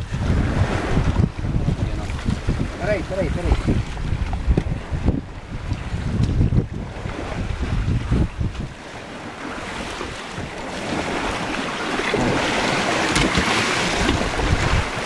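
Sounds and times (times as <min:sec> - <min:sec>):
water rushing along a boat: 0:00.0 - 0:15.0
wind buffeting microphone: 0:00.0 - 0:15.0.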